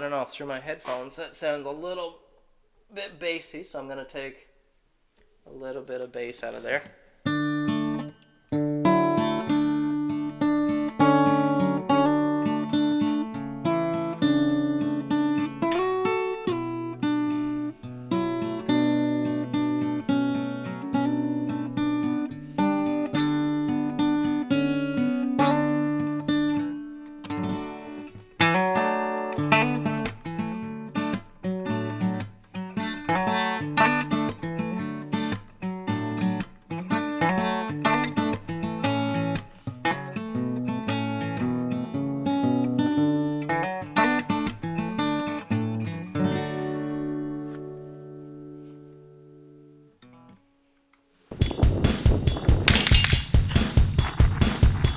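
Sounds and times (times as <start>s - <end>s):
acoustic guitar playing: 6.5s - 54.9s.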